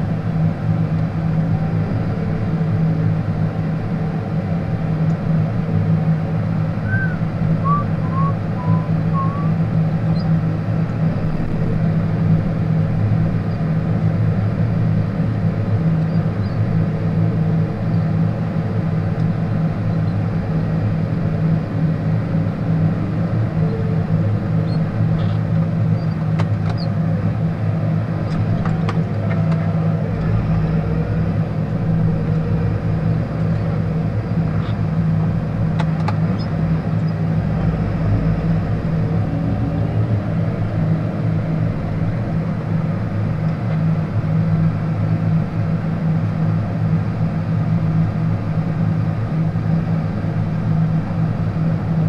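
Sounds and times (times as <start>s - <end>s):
deeper rumble: 0.0s - 52.0s
tractor diesel engine running: 0.0s - 52.0s.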